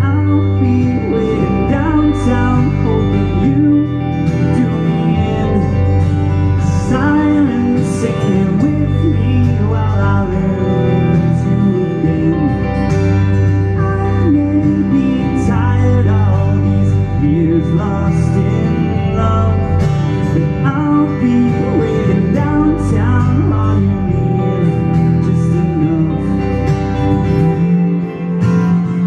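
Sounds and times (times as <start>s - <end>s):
acoustic guitar through speakers: 0.0s - 29.0s
steady low tone: 0.0s - 29.0s.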